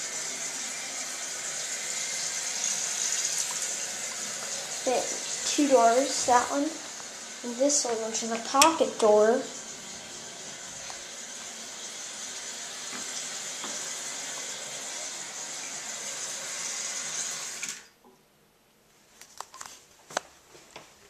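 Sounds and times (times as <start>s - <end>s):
toilet tank refilling: 0.0s - 17.8s.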